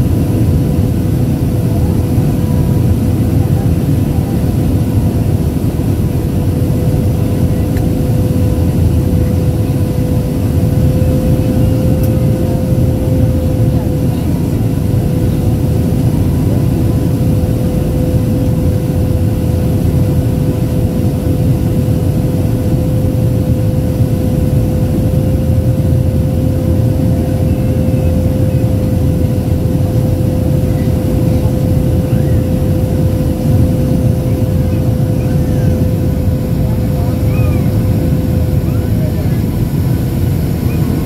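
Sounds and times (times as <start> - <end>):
airplane cabin roar: 0.0 - 41.0.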